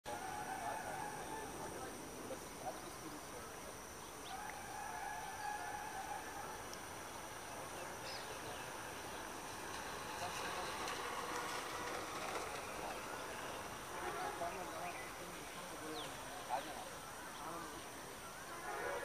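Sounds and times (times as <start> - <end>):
high insect drone: 0.1 - 19.0.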